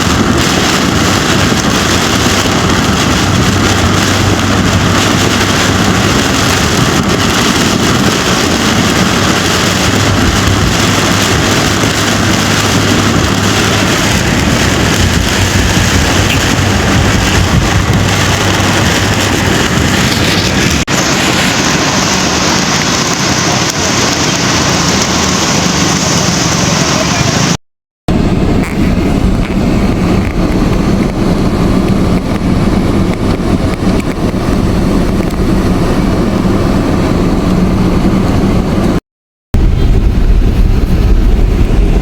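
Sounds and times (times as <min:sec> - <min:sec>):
heavy rain downpour: 0:00.0 - 0:39.0, 0:39.6 - 0:42.0.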